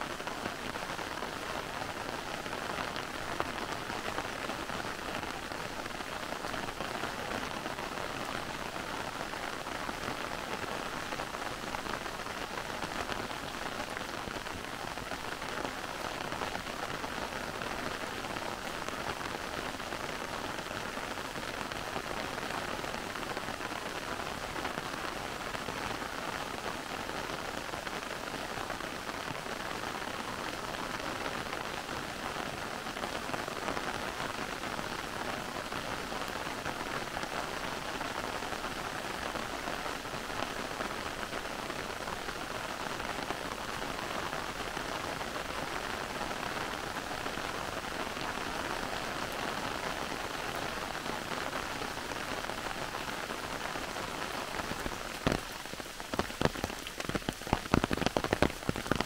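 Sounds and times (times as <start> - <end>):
heavy rain on foliage: 0.0 - 59.0.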